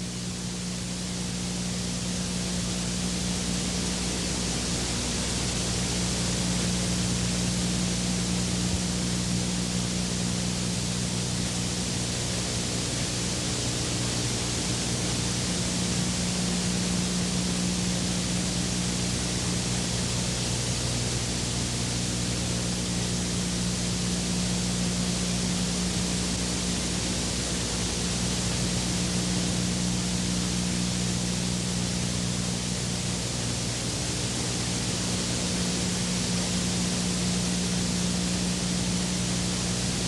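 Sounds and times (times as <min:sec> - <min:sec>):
low electrical hum: 0:00.0 - 0:40.0
steady hiss: 0:00.0 - 0:40.0.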